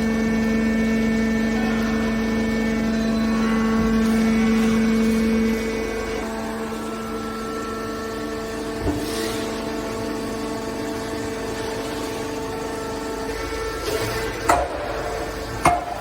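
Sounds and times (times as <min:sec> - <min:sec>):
baler motor and pump hum: 0:00.0 - 0:16.0.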